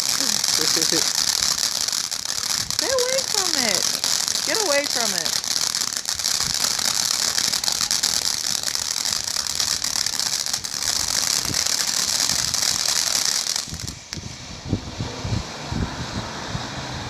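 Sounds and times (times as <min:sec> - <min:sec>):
firework crackling: 0:00.0 - 0:17.0
firework hiss: 0:00.0 - 0:17.0.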